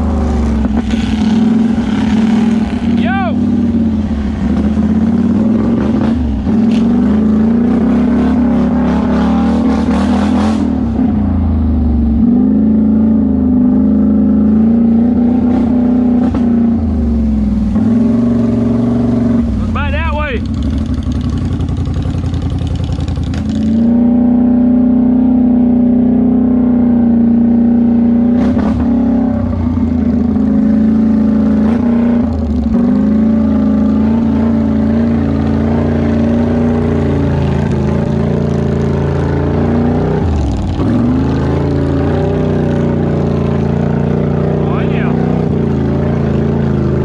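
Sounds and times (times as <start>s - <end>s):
atv engine running: 0.0s - 47.0s
vehicle crossing muddy water: 0.0s - 47.0s.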